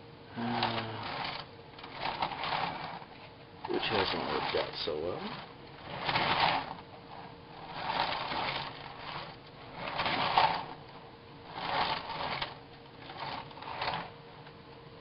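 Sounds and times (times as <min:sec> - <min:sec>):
motor rotor clattering: 0:00.4 - 0:14.8.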